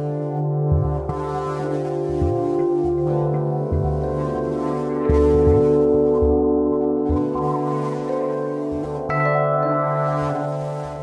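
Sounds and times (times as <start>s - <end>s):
low bass line: 0.0s - 9.7s.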